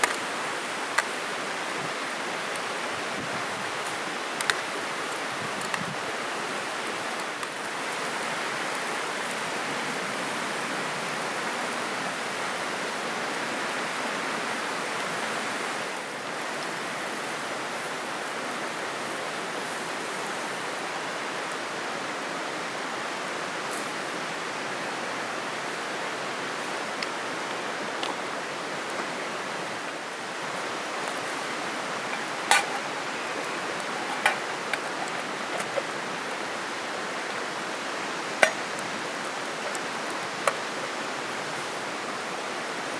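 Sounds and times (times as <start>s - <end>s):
river rushing: 0.0s - 42.9s.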